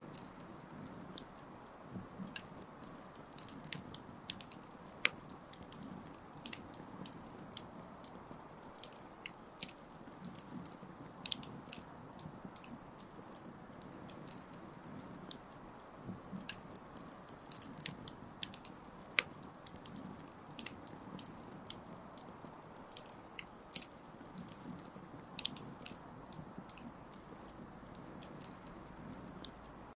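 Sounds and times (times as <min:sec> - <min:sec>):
campfire crackling and popping: 0:00.0 - 0:30.0
low hiss of burning: 0:00.0 - 0:30.0.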